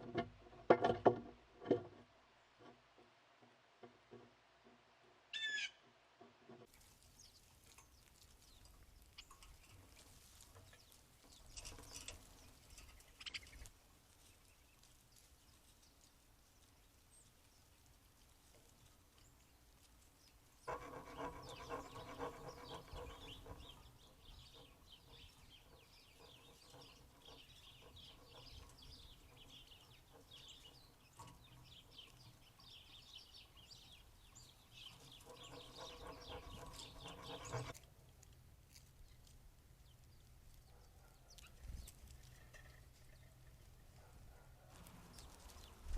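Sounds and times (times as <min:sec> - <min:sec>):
small birds chirping: 0:06.5 - 0:45.9.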